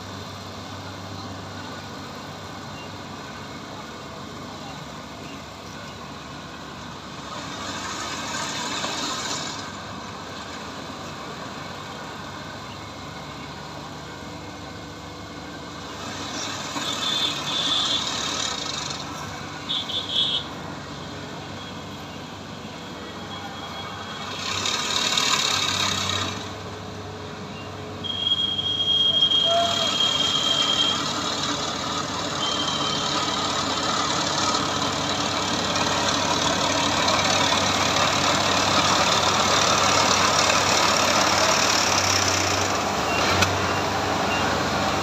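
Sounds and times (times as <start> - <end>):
combine harvester engine running: 0.0 - 45.0.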